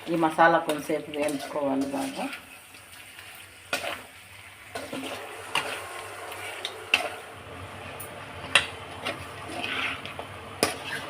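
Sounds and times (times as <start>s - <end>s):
food sizzling in a pan: 0.0s - 11.0s
spatula scraping a pan: 0.6s - 7.3s, 8.5s - 11.0s.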